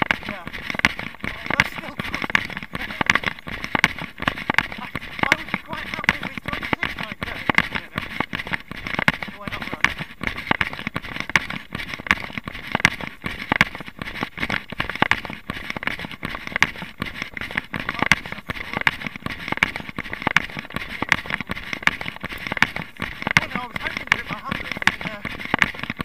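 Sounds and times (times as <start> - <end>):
footsteps crunching on gravel: 0.0 - 26.0.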